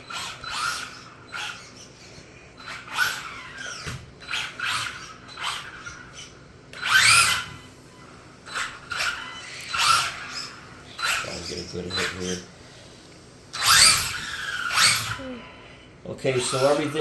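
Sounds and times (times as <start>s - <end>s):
electric motor revving whine: 0.0s - 12.4s, 13.5s - 15.3s, 16.3s - 17.0s.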